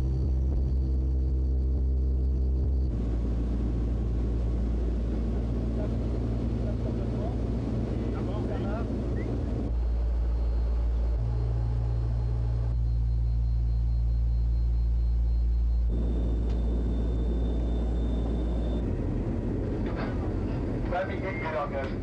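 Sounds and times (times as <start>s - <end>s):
plane engines droning in cabin: 0.0s - 22.0s.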